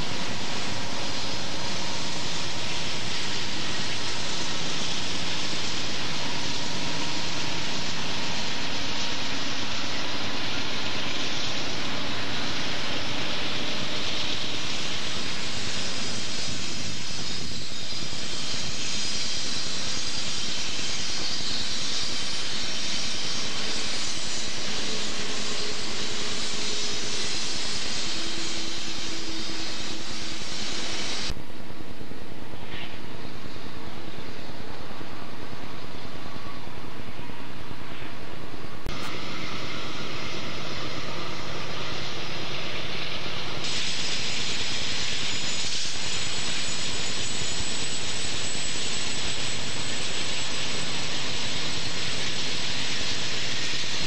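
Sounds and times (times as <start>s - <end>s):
diesel locomotive engines roaring: 0.0s - 54.0s
train wheel and rail noise: 0.0s - 54.0s.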